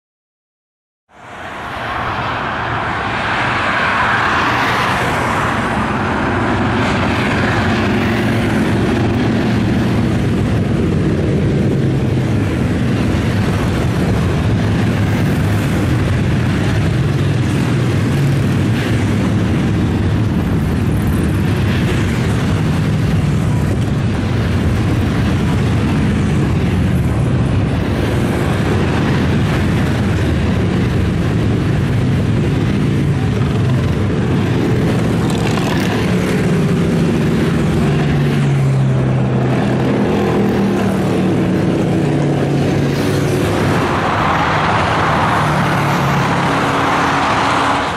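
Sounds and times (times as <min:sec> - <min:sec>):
road noise: 0:01.1 - 0:47.9
motorcycles riding past: 0:01.6 - 0:47.9.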